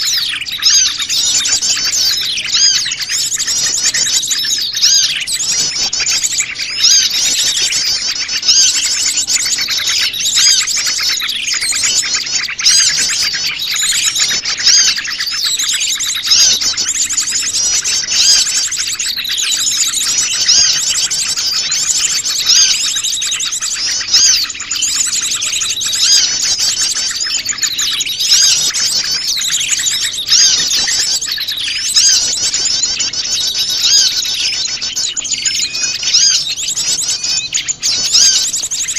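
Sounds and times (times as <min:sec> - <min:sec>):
songbirds chirping and twittering: 0:00.0 - 0:38.9.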